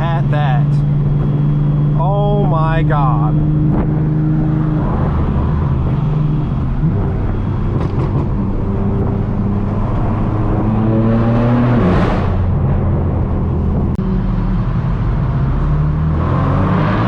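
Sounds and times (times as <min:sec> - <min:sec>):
car exhaust droning: 0:00.0 - 0:17.0.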